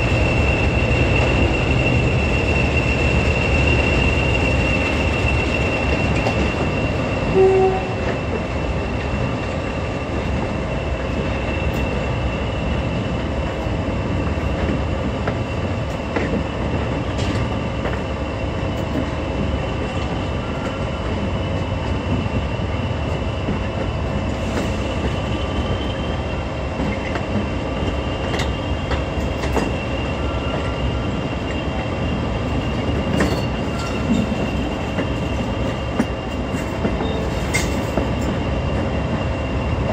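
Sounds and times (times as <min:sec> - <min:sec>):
diesel locomotive engine rumble: 0:00.0 - 0:39.9.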